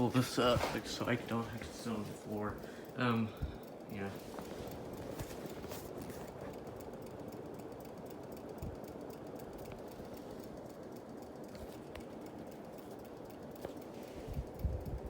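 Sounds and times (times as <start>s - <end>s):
ceiling fan humming: 0.0s - 15.0s
pull chain ticking against fan: 0.0s - 15.0s.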